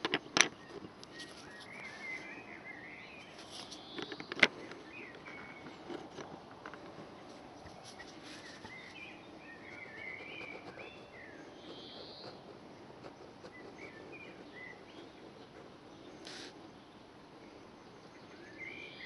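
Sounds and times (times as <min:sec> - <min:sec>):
small birds chirping: 0:00.0 - 0:19.0
steady background noise: 0:00.0 - 0:19.0.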